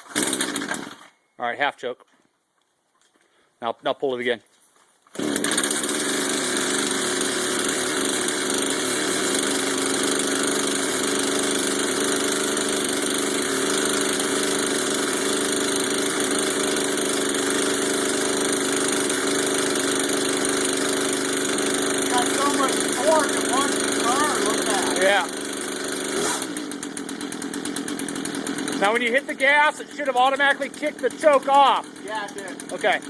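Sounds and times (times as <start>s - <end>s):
chainsaw engine at fast idle: 0.0s - 1.1s, 5.1s - 33.0s.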